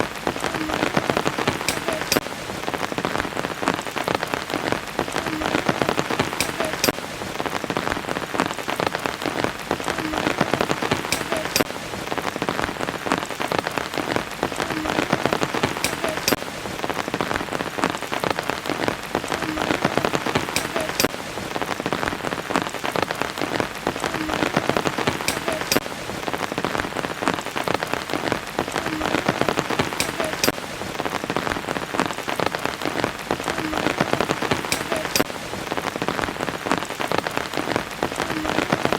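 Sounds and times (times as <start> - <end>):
rain falling: 0.0 - 38.9
single raindrops striking: 0.0 - 38.9.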